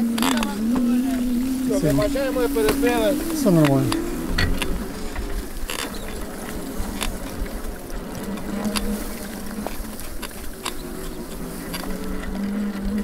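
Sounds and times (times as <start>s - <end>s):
bicycle rolling rumble on grass: 0.0s - 13.0s
bike clicks and rattles: 0.0s - 13.0s
faint steady hum: 0.0s - 13.0s.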